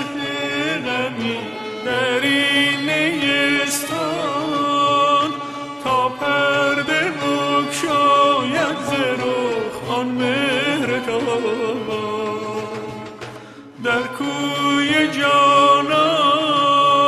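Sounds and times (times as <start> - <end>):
low musical accompaniment: 0.0 - 17.0
person singing ornamented lines: 0.0 - 17.0.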